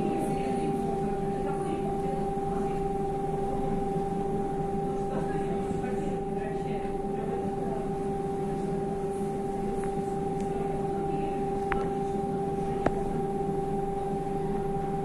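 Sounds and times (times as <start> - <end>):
electric drive whine: 0.0 - 15.0.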